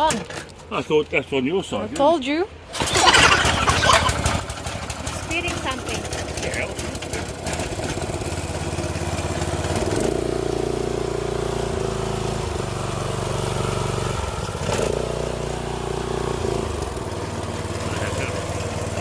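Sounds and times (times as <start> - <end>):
pressure washer pump turning: 2.7 - 19.0
small petrol engine running: 2.7 - 19.0.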